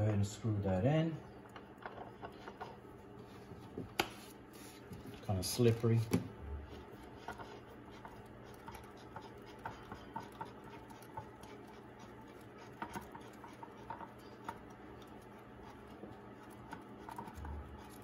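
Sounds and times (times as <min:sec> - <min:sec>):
faint steady hum: 0:00.0 - 0:18.0
oil filter scratching and clicking: 0:01.3 - 0:03.2, 0:04.8 - 0:18.0.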